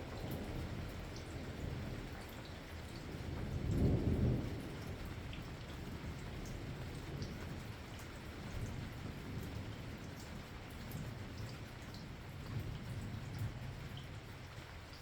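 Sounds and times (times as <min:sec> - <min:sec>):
low rumble of thunder: 0:00.0 - 0:15.0
steady rain with drips: 0:00.0 - 0:15.0.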